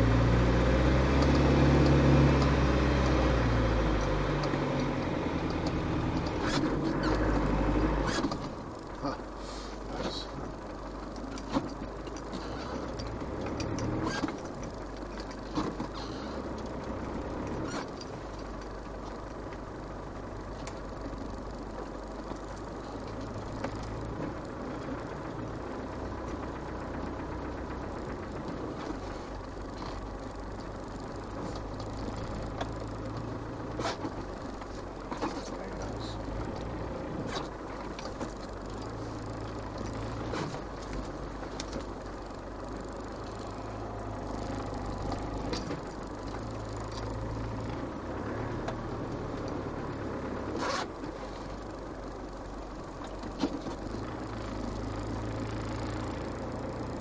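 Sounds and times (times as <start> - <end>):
diesel engine running at low revs: 0.0 - 57.0.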